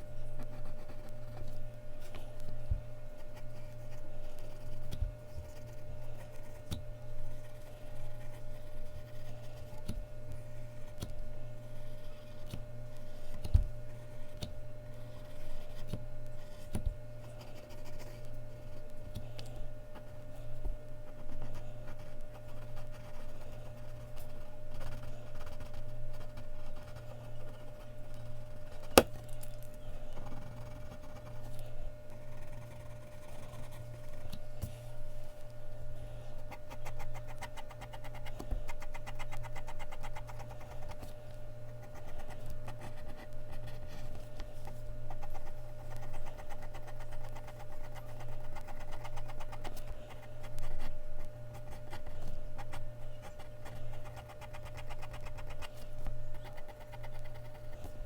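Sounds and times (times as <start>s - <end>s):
steady low hum: 0.0s - 58.0s
pencil scratching on paper: 0.4s - 2.2s, 3.2s - 10.0s, 11.7s - 18.8s, 21.1s - 29.2s, 30.1s - 34.3s, 36.4s - 58.0s.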